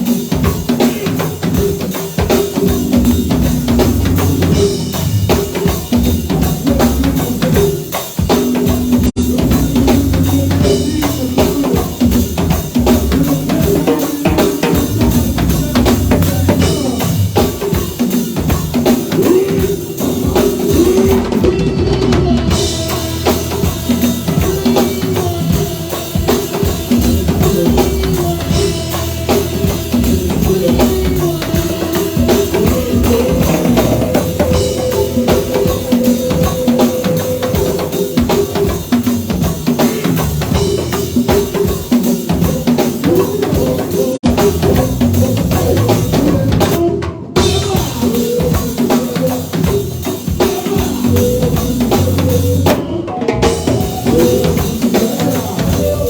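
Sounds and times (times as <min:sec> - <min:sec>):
bass drum and snare: 0:00.0 - 0:56.0
live band playing: 0:00.0 - 0:56.0.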